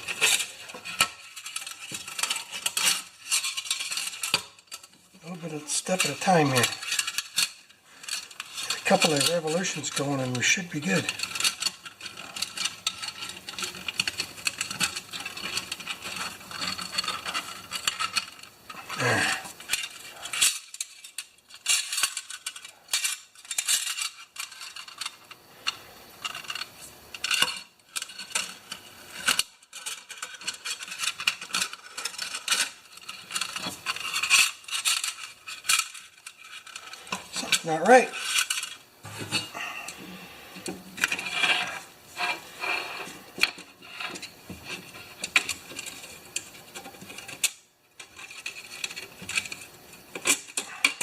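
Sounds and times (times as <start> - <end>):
light metallic clicks and scrapes: 0.0 - 51.0.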